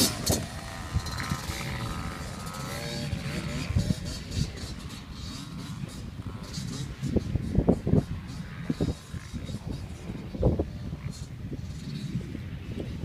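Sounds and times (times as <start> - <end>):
distant dirt bikes revving: 0.0 - 13.0.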